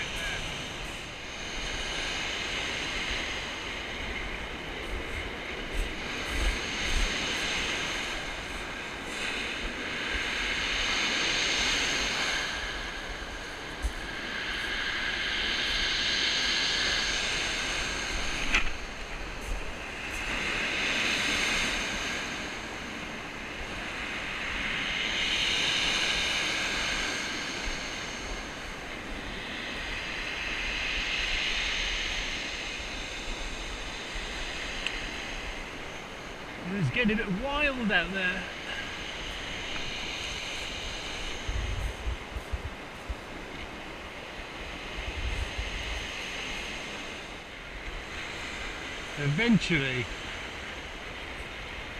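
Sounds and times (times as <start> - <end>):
wind rumble on microphone: 0.0 - 51.9.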